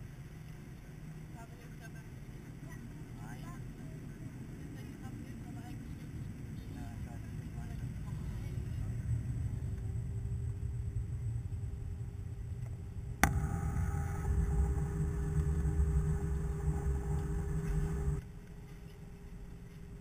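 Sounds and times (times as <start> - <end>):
airliner engine rumble: 0.0 - 18.2
faint steady hum: 0.0 - 20.0.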